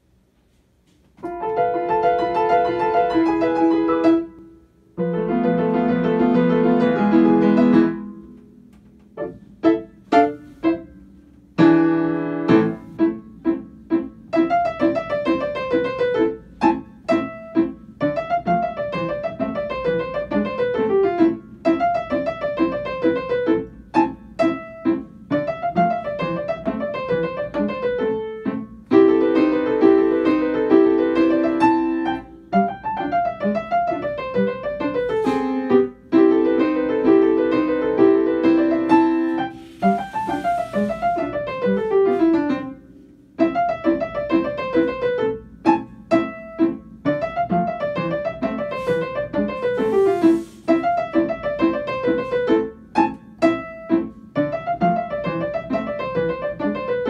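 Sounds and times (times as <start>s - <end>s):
solo piano: 0.0s - 57.0s.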